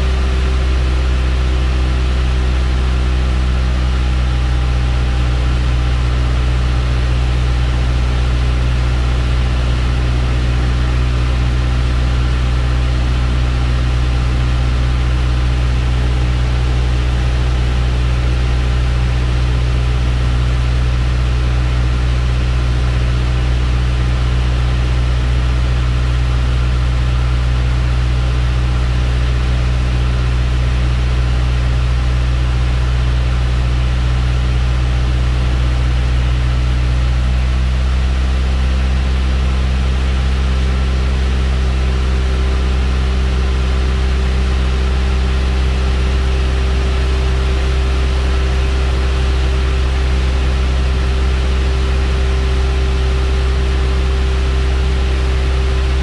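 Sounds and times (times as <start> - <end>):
aircraft engine and propeller droning: 0.0 - 56.0.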